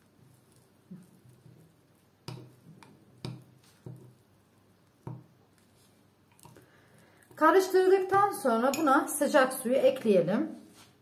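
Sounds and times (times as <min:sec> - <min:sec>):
teaspoon stirring thick paste: 0:00.0 - 0:09.0.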